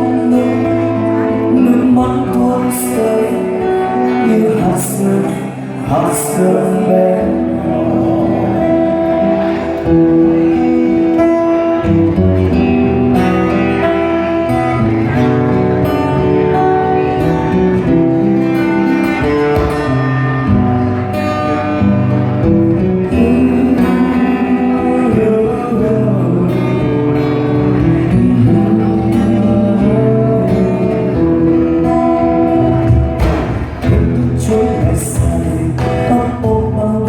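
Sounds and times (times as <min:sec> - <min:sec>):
guitar playing melody: 0:00.0 - 0:37.0
live band playing: 0:00.0 - 0:37.0.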